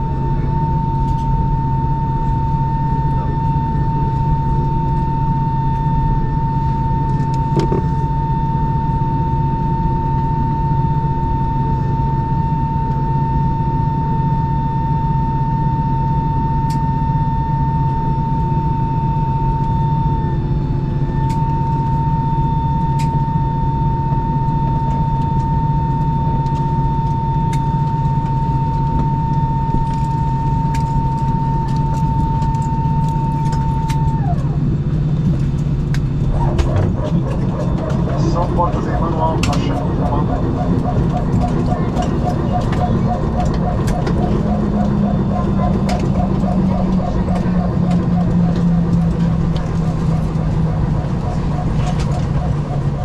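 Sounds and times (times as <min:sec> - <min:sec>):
high engine whine: 0:00.0 - 0:53.0
jet engines droning: 0:00.0 - 0:53.0.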